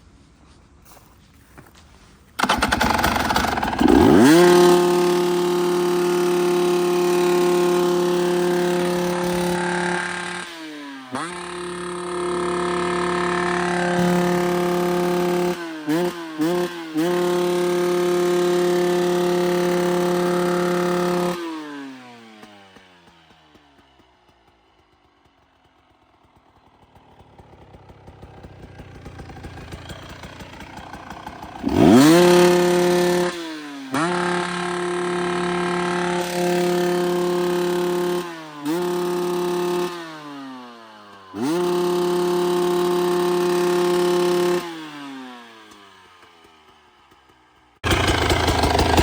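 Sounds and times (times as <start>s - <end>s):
dirt bike engine revving: 2.4s - 24.1s, 25.8s - 49.0s.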